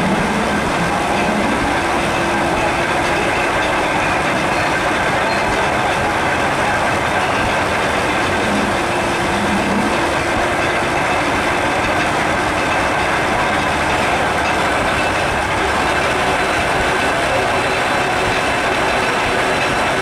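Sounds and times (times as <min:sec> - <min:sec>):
steam mill clatter and rumble: 0:00.0 - 0:20.0.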